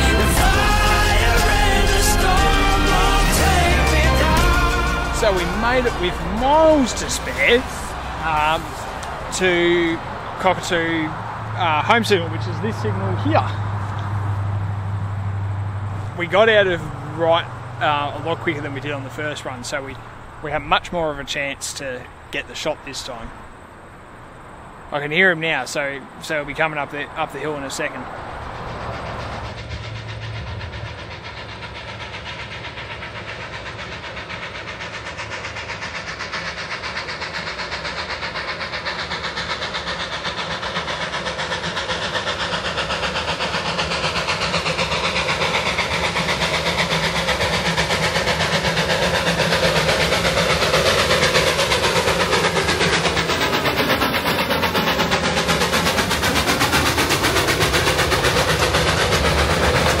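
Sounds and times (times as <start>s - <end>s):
steam train exhaust chuffing: 0.0s - 60.0s
train wheels on rails: 0.0s - 60.0s.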